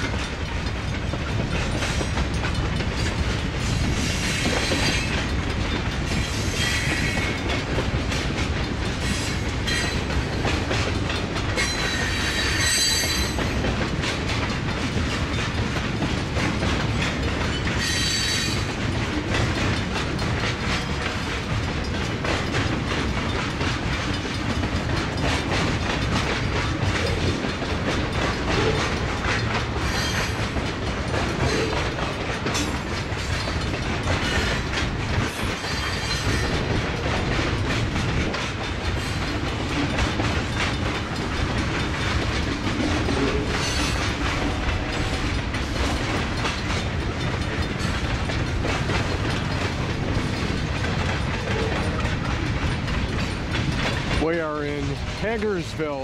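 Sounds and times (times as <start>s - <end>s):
train wheels rumbling on rail: 0.0s - 56.0s
wheels clickety-clack: 0.0s - 56.0s.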